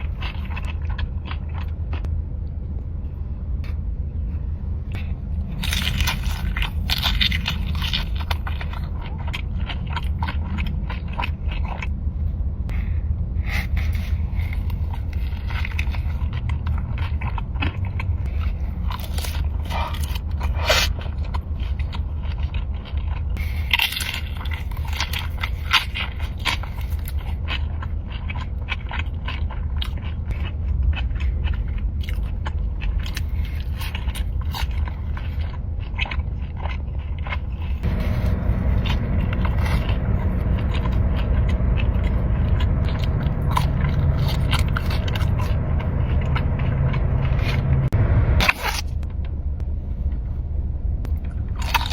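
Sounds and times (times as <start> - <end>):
crunching and chewing: 0.0 - 2.2, 4.9 - 50.2, 51.0 - 51.9
low rumble: 0.0 - 51.9.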